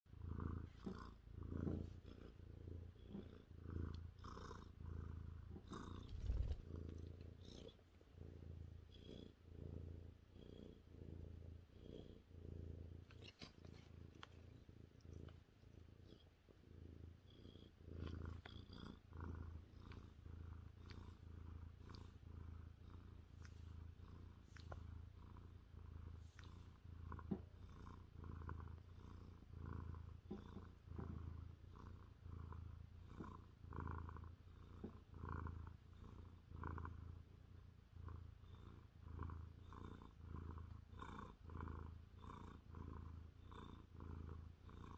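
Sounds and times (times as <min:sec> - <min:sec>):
cat purring: 0:00.1 - 0:44.9.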